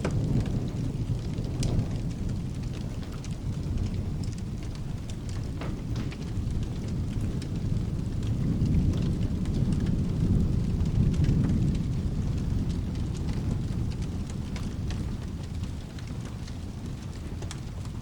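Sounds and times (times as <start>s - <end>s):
low rolling thunder: 0.0s - 18.0s
steady rain: 0.0s - 18.0s
wood fire crackling: 0.0s - 18.0s.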